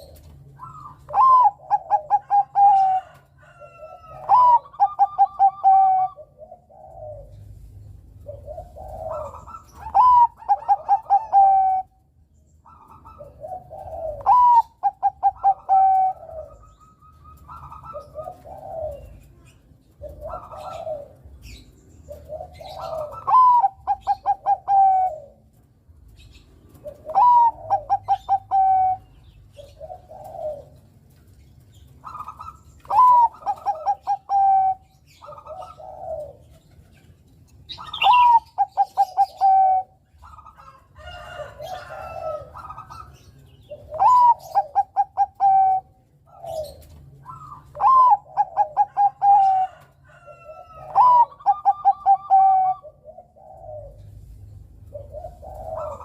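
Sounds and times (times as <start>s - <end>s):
dove cooing: 0.0s - 56.0s
small birds chirping: 0.0s - 56.0s.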